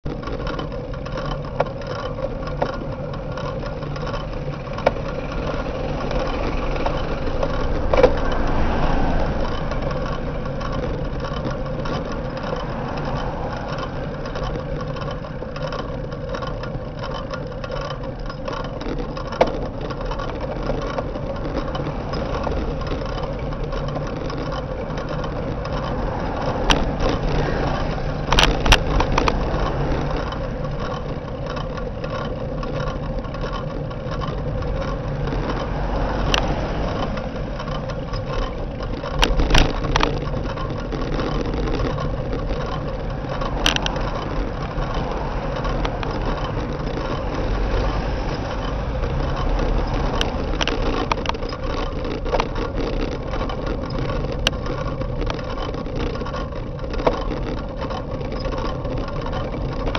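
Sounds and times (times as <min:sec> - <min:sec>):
motor traffic: 0:00.0 - 0:59.9
road and wind noise: 0:00.0 - 0:59.9.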